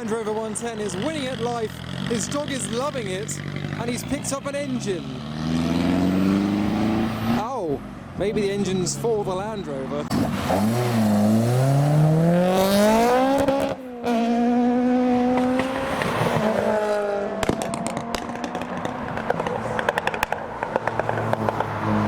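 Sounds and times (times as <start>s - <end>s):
exhaust crackles: 0.0s - 22.0s
car engine accelerating hard: 1.0s - 7.5s, 9.9s - 22.0s.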